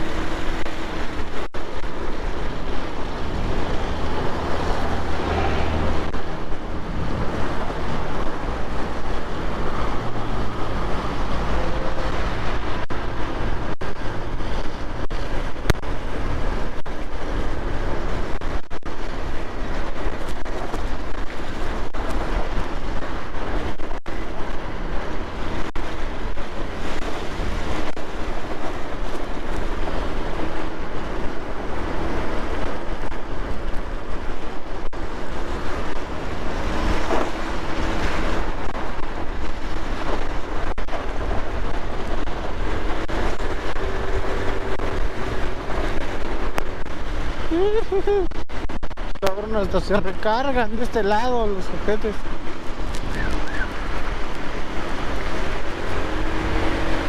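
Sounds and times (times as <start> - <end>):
motorcycle engine hum: 0.0 - 50.4, 51.7 - 57.0
wind rushing over microphone: 0.0 - 57.0.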